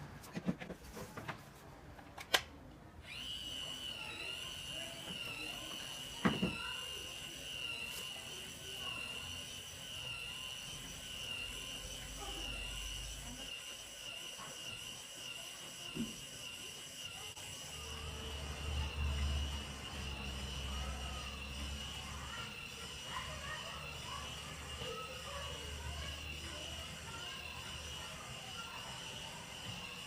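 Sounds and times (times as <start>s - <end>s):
electric motor whining: 3.0s - 30.0s.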